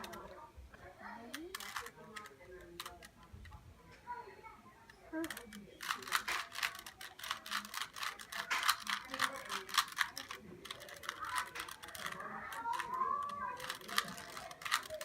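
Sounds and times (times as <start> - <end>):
plastic puzzle cube clicking: 1.2 - 3.6, 4.8 - 15.0.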